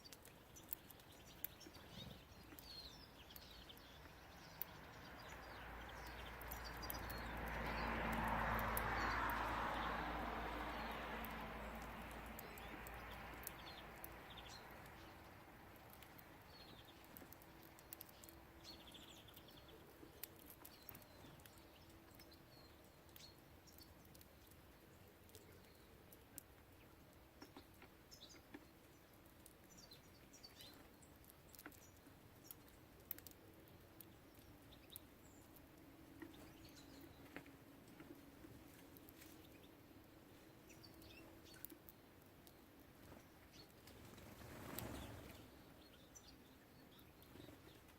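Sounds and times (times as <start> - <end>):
background noise: 0.0 - 47.9
songbirds chirping: 0.0 - 47.9.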